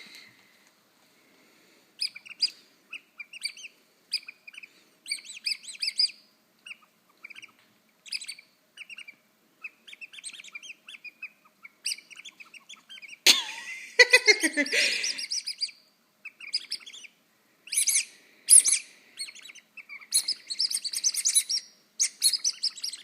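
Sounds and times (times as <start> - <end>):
bird chirping: 2.0 - 13.2, 14.0 - 23.0.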